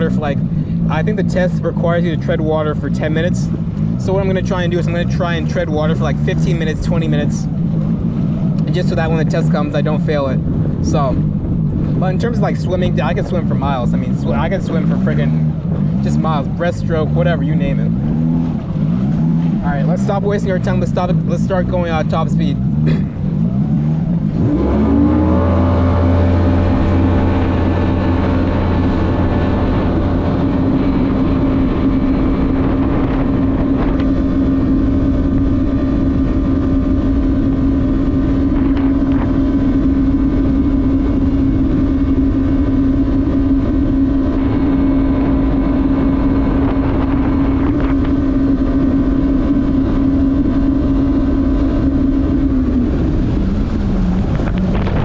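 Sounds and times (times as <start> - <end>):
jet ski engine revving: 0.0 - 55.0.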